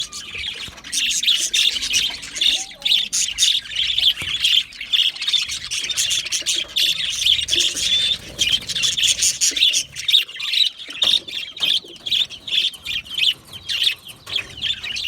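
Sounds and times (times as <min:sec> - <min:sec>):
bird squawks: 0:00.0 - 0:15.0
budgerigars chirping: 0:00.0 - 0:15.0.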